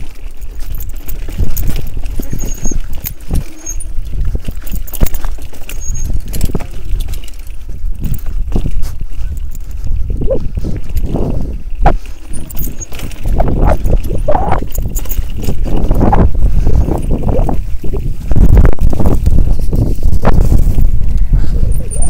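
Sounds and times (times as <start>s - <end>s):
bicycle rattling and knocking: 0.0s - 22.0s.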